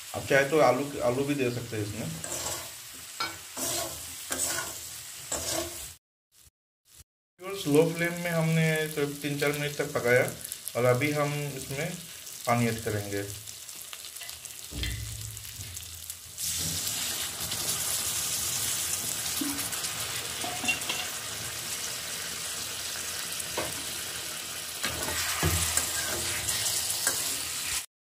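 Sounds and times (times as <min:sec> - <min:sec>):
loud sizzle in a pan: 0:00.0 - 0:27.9.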